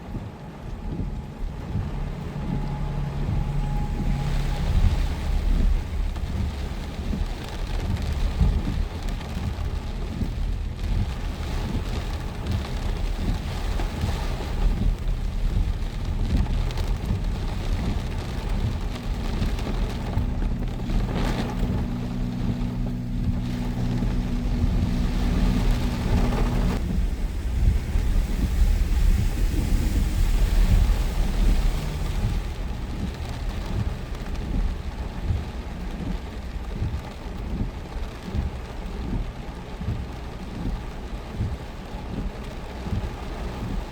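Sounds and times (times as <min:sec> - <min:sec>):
deep rumble: 0:00.0 - 0:43.9
heavy rain: 0:00.0 - 0:43.9
steady low hum: 0:00.0 - 0:43.9
wind buffeting microphone: 0:00.0 - 0:43.9.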